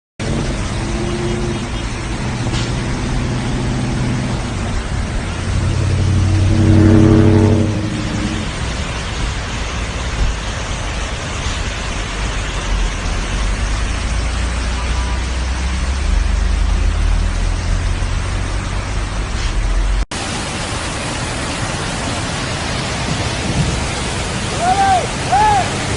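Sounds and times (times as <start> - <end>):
car driving: 0.2 - 25.9.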